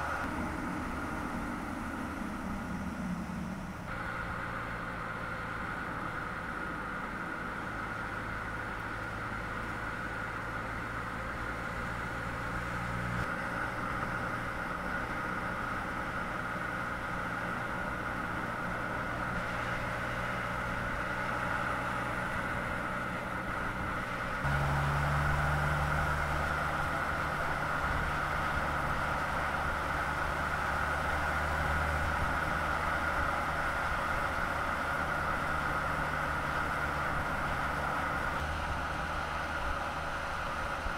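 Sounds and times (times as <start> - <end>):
low vehicle hum: 0.0 - 40.9
tyre and road noise: 0.0 - 40.9.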